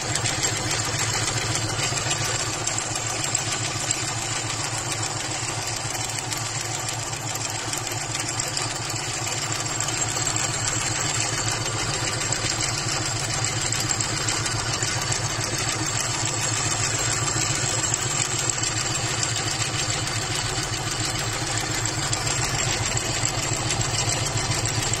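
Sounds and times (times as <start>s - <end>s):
embroidery machine stitching: 0.0s - 25.0s
motor hum: 0.0s - 25.0s.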